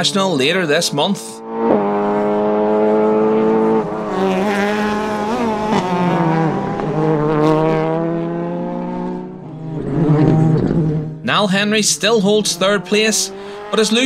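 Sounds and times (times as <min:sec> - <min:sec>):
rally car engine at full revs: 0:01.4 - 0:11.4, 0:12.2 - 0:14.0.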